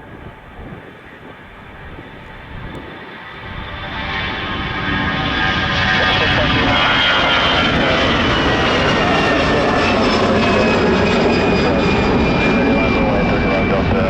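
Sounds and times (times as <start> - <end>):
jet engines with whining tones: 0.0 - 14.0.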